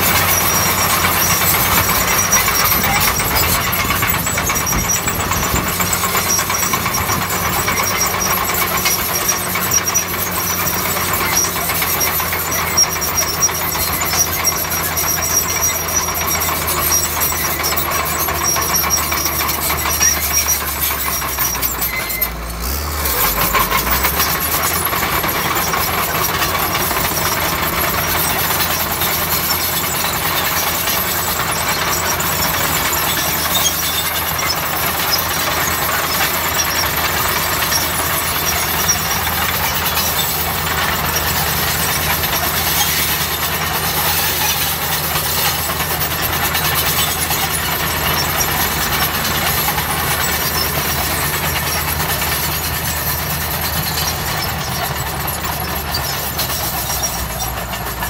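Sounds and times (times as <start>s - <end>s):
bulldozer diesel engine working: 0.0s - 58.0s.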